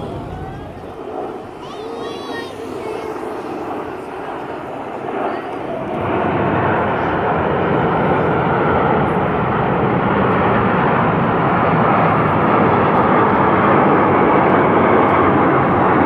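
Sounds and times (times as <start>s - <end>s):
jet aircraft flying past: 0.0s - 16.0s.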